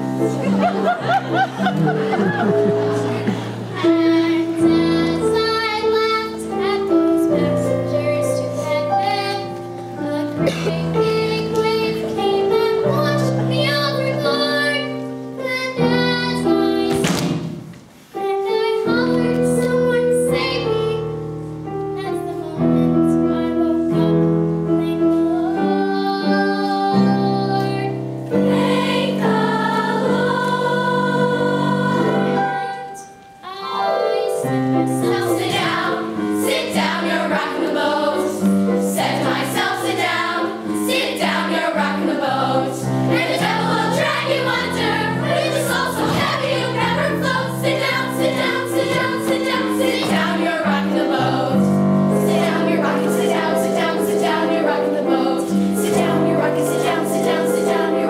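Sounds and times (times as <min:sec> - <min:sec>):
youth chorus singing: 0:00.0 - 0:15.0, 0:25.3 - 0:58.0
musical accompaniment: 0:00.0 - 0:58.0.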